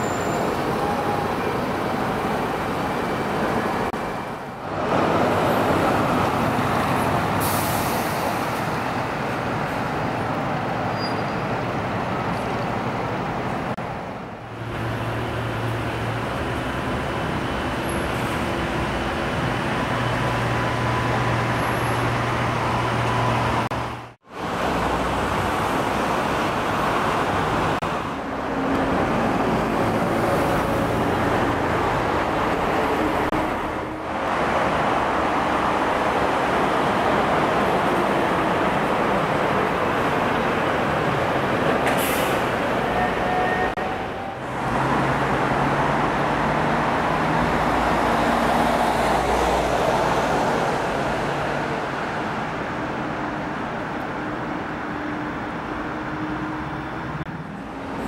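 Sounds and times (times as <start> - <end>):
road noise of passing vehicles: 0.0 - 58.0.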